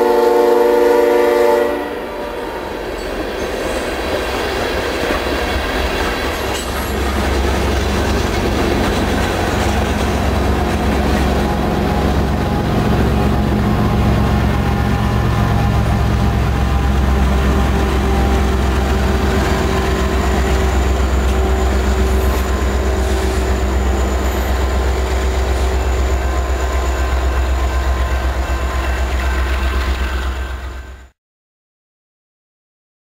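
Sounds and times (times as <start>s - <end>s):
locomotive engine drone: 0.0s - 31.1s
wheels rumbling on rail: 0.0s - 31.1s.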